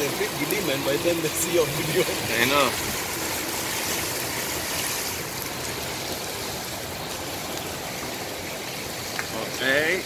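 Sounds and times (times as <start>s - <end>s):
heavy rain on a flooded road: 0.0s - 10.0s.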